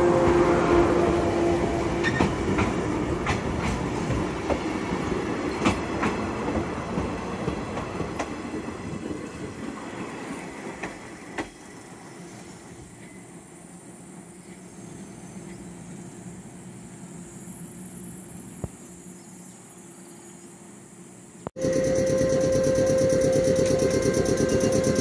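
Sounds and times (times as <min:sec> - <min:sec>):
electric train rolling past: 0:00.0 - 0:25.0.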